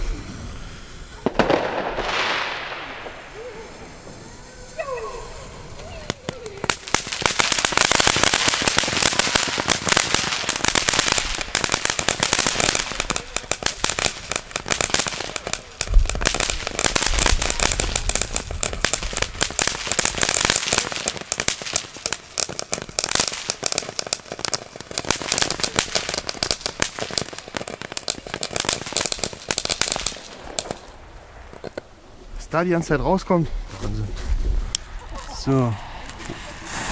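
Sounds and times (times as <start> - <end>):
firework fountains crackling: 0.0 - 36.9.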